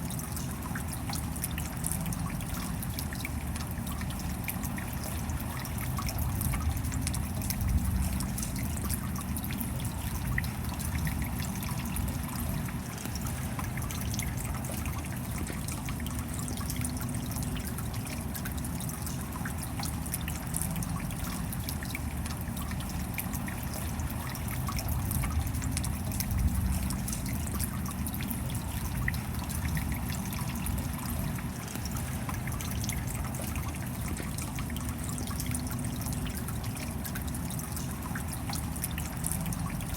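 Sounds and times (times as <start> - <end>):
rain patter of fine drops: 0.0 - 39.9
trickle of running water: 0.0 - 39.9.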